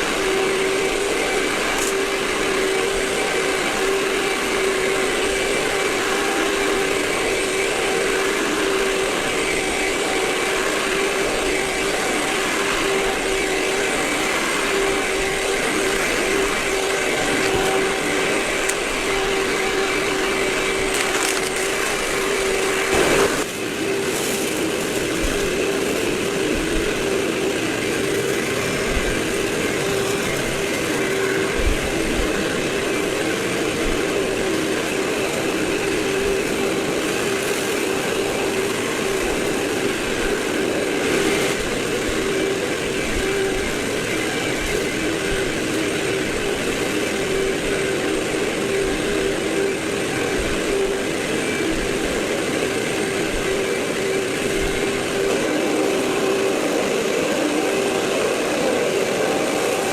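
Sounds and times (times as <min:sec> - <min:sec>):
sped-up vacuum cleaner hum: 0:00.0 - 0:59.9.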